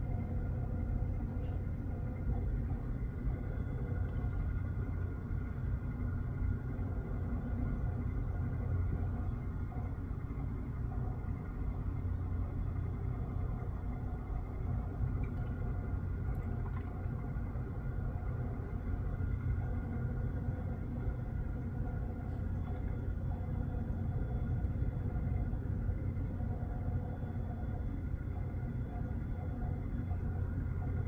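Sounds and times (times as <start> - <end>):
low rumble of outdoor background: 0.0 - 31.0.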